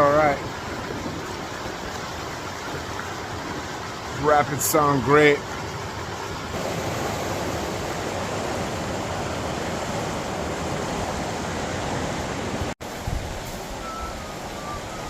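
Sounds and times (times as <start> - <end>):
stream rapids rushing: 0.0 - 15.0.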